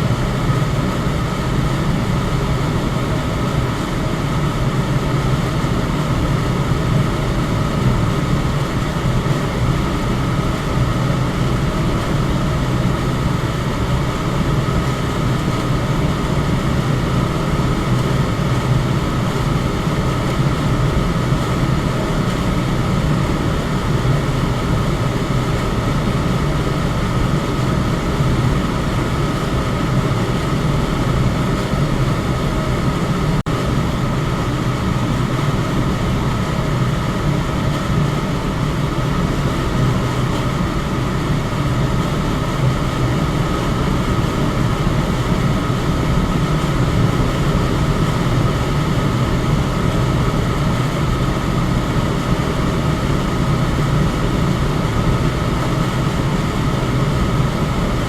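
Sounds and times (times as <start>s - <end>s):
electric fan running: 0.0s - 58.0s.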